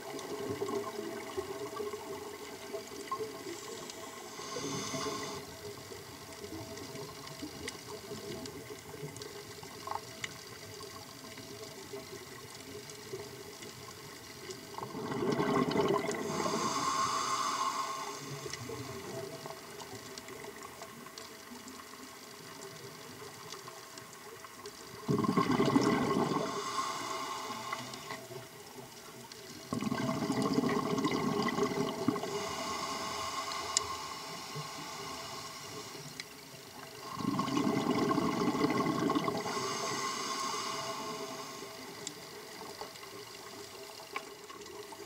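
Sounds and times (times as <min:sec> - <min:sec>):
faint hiss: 0:00.0 - 0:14.8, 0:15.7 - 0:25.1, 0:25.7 - 0:29.7, 0:31.3 - 0:45.0
exhaled air bubbling underwater: 0:00.0 - 0:45.0.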